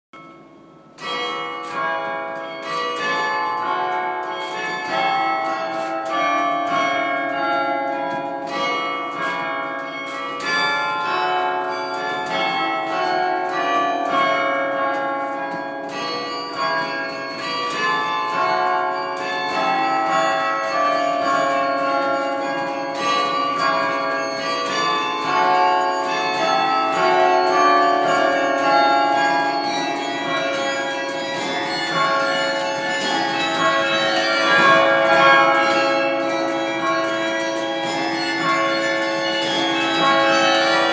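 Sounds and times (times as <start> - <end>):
carillon bells playing a tune: 0.2 - 40.9.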